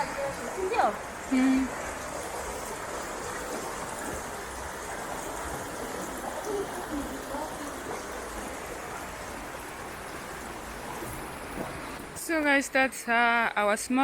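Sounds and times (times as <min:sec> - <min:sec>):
stream running: 0:00.0 - 0:14.0.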